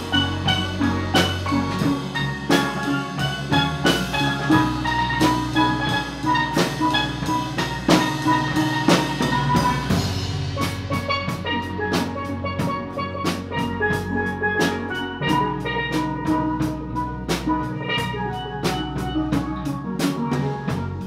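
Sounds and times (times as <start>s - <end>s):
drum kit beat: 0.0s - 21.0s
steel pans playing melody: 0.0s - 21.0s.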